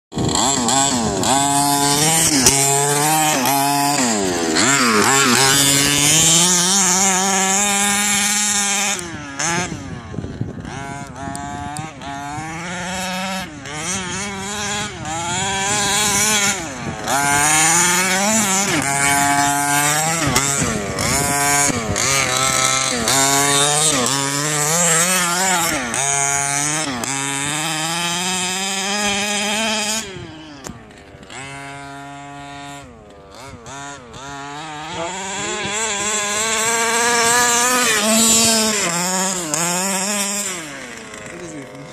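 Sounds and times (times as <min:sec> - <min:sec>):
small two-stroke engine revving: 0:00.1 - 0:41.9.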